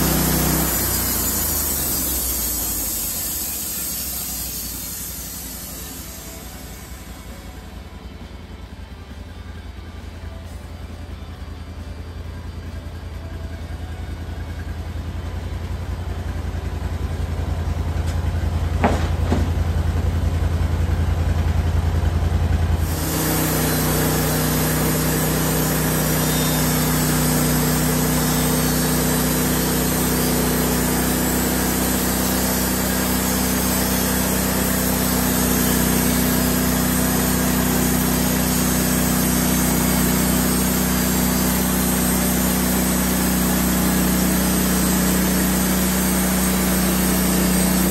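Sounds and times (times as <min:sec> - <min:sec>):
sawmill engine running: 0:00.0 - 0:47.9.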